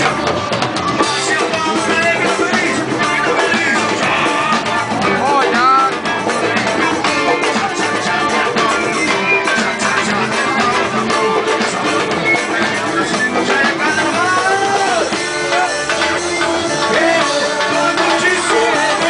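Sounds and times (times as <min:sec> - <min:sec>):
drums: 0:00.0 - 0:19.0
live band playing loud music: 0:00.0 - 0:19.0.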